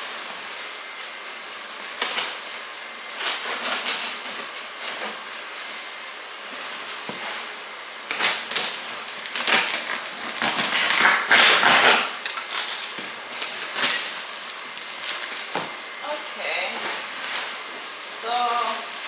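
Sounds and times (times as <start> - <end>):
packaging rustling and crinkling: 0.0 - 19.0.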